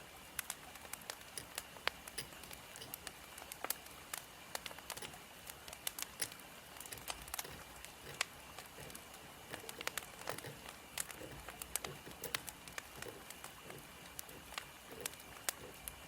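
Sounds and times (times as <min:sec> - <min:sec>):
wood fire crackling: 0:00.3 - 0:16.0.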